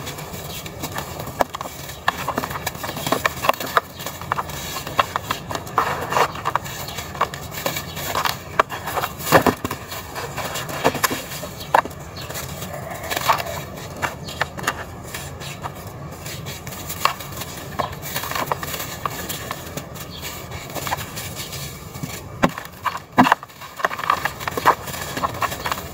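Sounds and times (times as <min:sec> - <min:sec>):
dirt clods crunching: 0:00.0 - 0:25.9.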